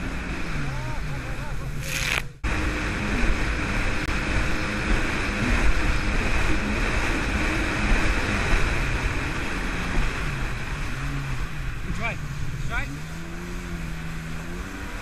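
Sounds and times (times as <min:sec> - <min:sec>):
jet ski engine drone: 0:00.0 - 0:15.0
water rushing against a hull: 0:00.0 - 0:15.0.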